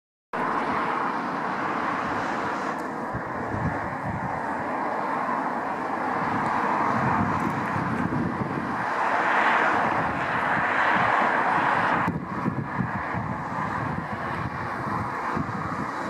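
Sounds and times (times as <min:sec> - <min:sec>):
diesel train running: 0:00.4 - 0:16.0.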